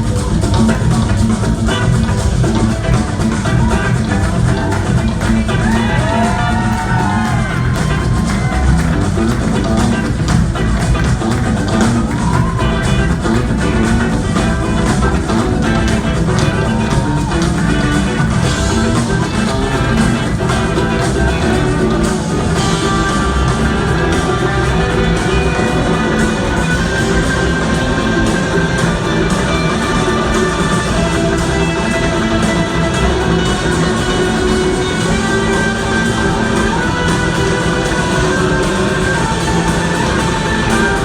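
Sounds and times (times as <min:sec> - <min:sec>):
bass guitar: 0:00.0 - 0:41.0
drums: 0:00.0 - 0:41.0
electric guitar lead: 0:00.0 - 0:41.0.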